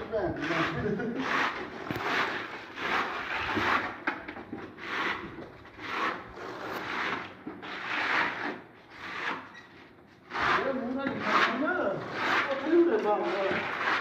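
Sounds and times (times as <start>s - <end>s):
sandpaper rasping on wall: 0.4s - 4.2s, 4.8s - 14.0s.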